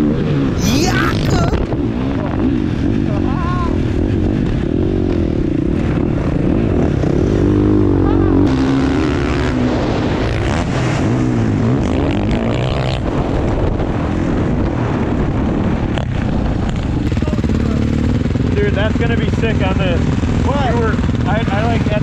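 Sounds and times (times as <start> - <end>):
dirt bike engine revving: 0.0 - 13.3, 16.1 - 22.0.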